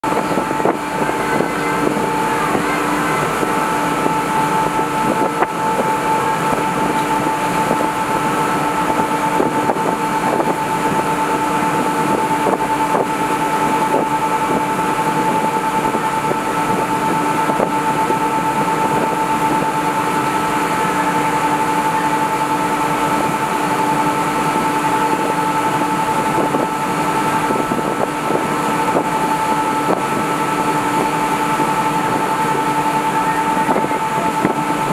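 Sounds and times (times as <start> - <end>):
wind on microphone: 0.0 - 23.5, 24.1 - 34.9
boat engines droning: 0.0 - 34.9
rushing water: 0.0 - 34.9.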